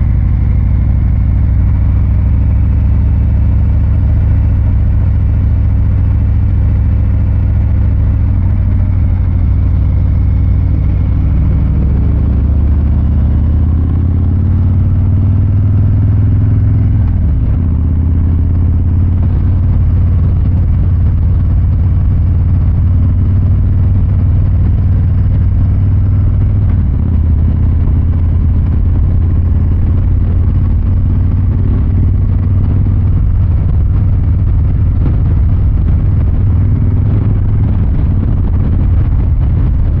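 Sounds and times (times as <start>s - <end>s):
motorcycle exhaust rumbling: 0.0s - 40.0s.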